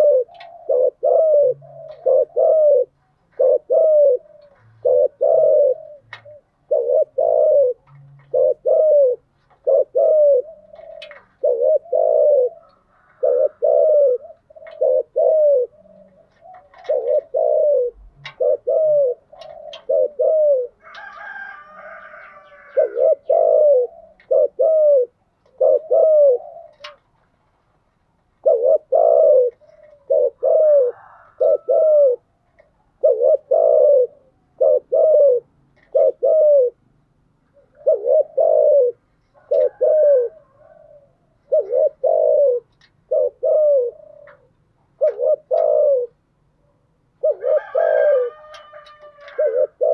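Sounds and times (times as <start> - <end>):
dove cooing: 0.0 - 27.6, 28.2 - 49.9.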